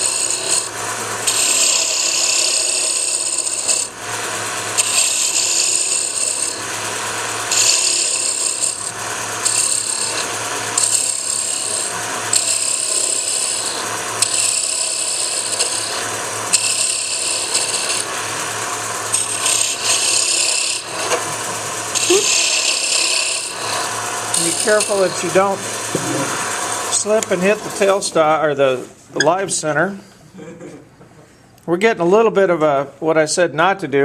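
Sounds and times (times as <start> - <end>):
wood lathe motor hum: 0.0 - 28.4
turning tool scraping wood: 0.0 - 29.0.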